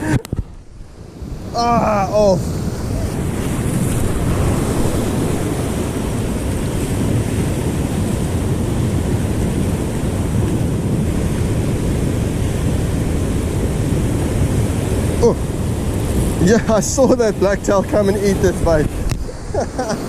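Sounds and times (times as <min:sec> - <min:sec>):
ocean surf washing in: 0:00.0 - 0:20.0
wind on microphone: 0:00.0 - 0:20.0.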